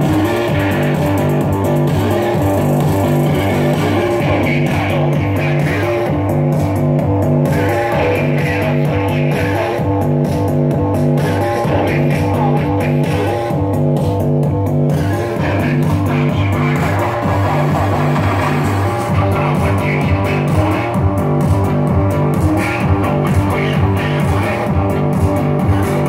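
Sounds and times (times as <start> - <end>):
bass guitar: 0.0 - 26.0.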